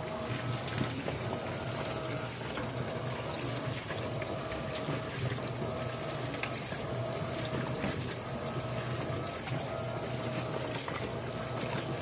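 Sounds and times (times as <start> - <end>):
water running into washing machine: 0.0 - 12.0.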